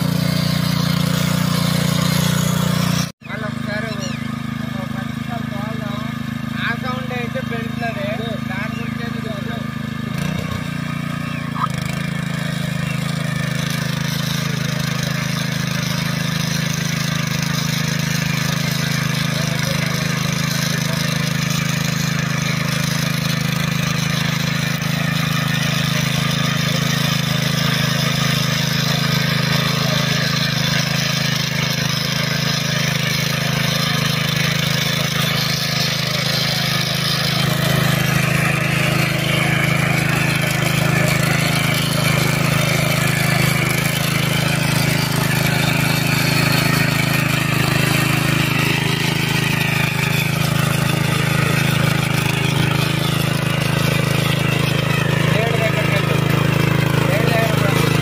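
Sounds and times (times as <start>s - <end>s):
power weeder engine running: 0.0s - 58.0s
rotary tines churning soil: 0.0s - 58.0s.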